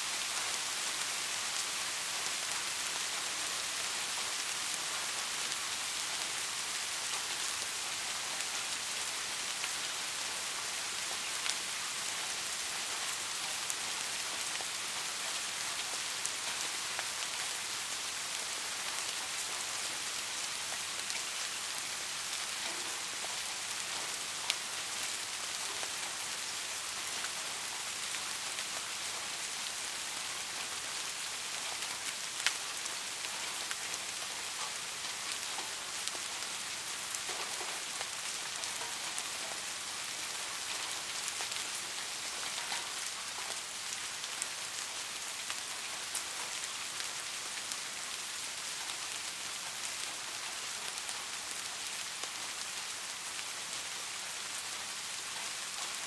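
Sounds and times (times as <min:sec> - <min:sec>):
sharp ticks of raindrops: 0:00.0 - 0:56.0
steady rain hiss: 0:00.0 - 0:56.0.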